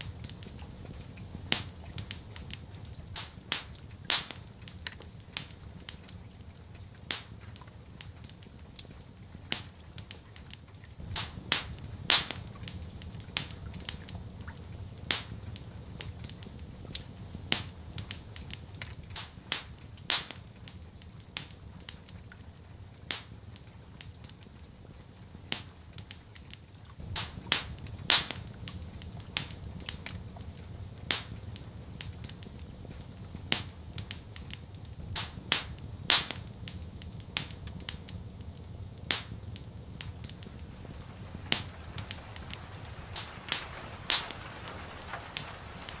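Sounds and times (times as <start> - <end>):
low steady rumble: 0.0 - 46.0
wood fire crackling and popping: 0.0 - 46.0.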